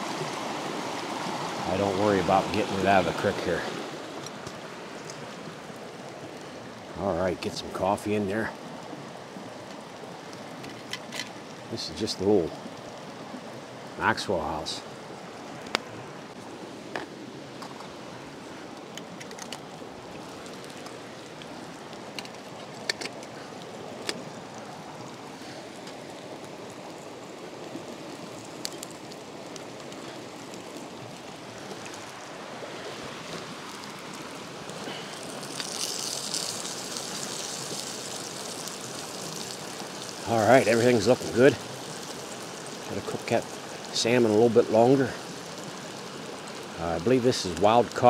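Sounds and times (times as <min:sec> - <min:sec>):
creek running: 0:00.0 - 0:48.0.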